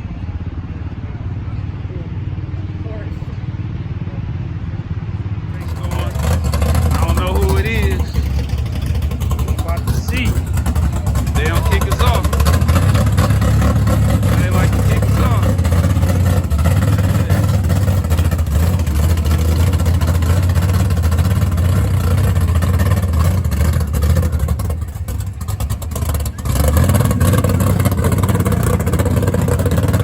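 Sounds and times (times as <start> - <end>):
drag racing engine running: 0.0 - 30.0.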